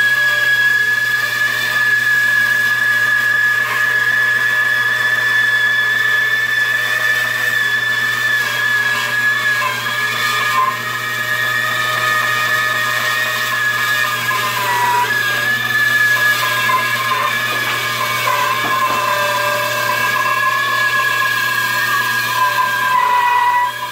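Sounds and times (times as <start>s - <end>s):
bandsaw whine: 0.0s - 23.9s.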